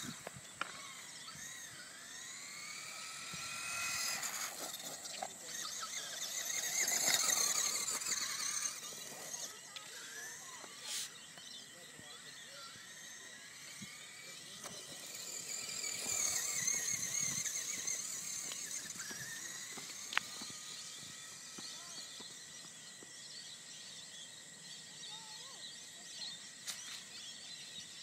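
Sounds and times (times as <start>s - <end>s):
rc car motor whining: 0.0s - 28.0s.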